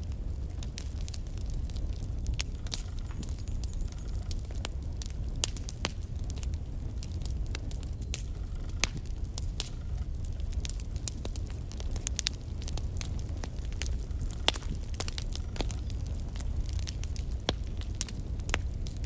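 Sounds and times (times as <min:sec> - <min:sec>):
logs crackling in fireplace: 0:00.0 - 0:19.0.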